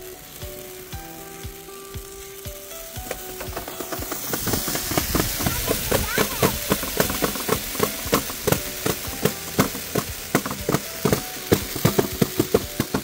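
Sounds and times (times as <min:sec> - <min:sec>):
beads rattling in spinning panel: 0:02.6 - 0:13.0.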